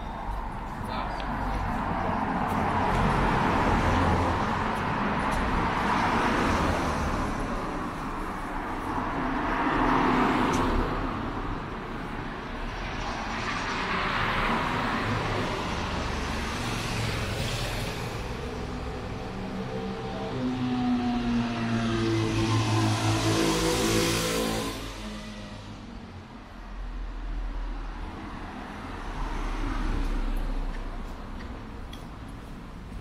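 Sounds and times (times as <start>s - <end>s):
cars passing: 0.0s - 33.0s
steady traffic hum: 0.0s - 33.0s.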